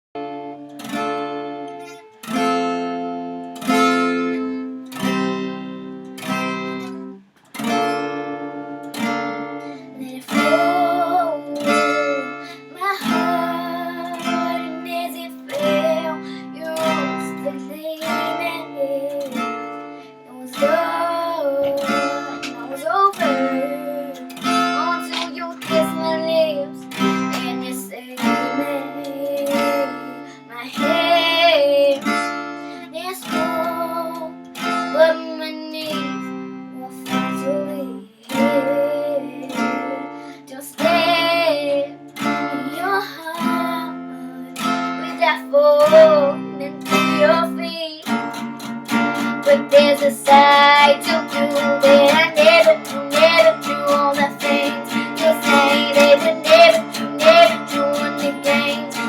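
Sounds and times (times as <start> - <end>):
acoustic guitar strummed and picked: 0.2 - 59.0.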